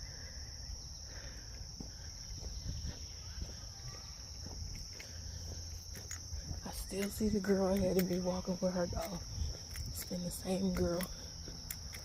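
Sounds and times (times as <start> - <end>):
crickets droning: 0.0 - 12.0
low wind rumble: 0.0 - 12.0
soft footsteps on trail: 0.0 - 12.0.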